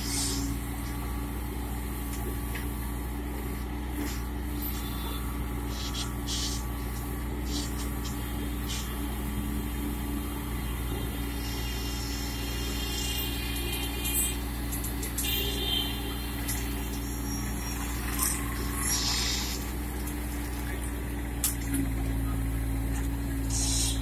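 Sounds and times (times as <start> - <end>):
diesel loader engine running: 0.0 - 24.0.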